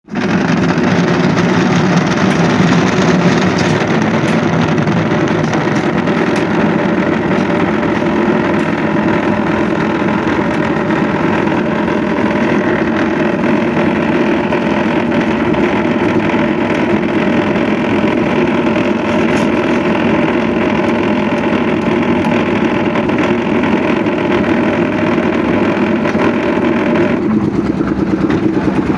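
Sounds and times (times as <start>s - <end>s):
machinery engine running: 0.0s - 28.9s.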